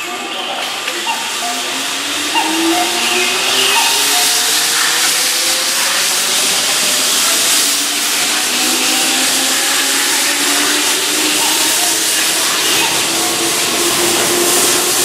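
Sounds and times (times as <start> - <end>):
electric train motor hum: 0.0 - 15.0
train running hiss: 0.0 - 15.0.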